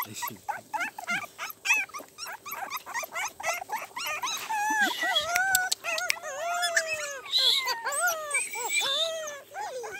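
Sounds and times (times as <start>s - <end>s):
puppies whimpering and squeaking: 0.0s - 9.9s.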